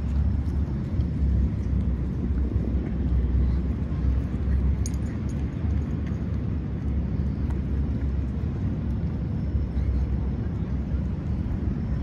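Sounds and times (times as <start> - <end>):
low rumble of outdoor background: 0.0 - 12.0.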